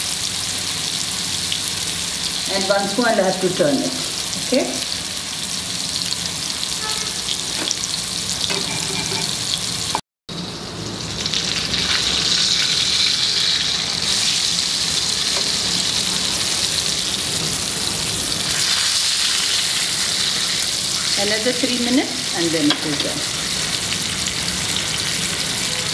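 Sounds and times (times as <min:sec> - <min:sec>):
fish sizzling in a frying pan: 0:00.0 - 0:25.9.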